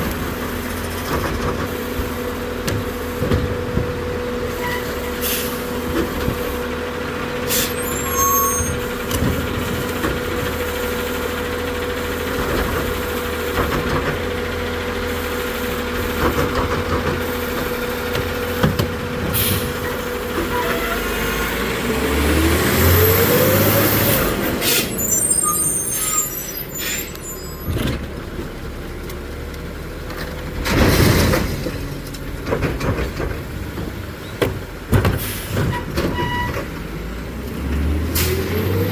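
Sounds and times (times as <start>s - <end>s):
garbage truck engine whining: 0.0s - 38.9s.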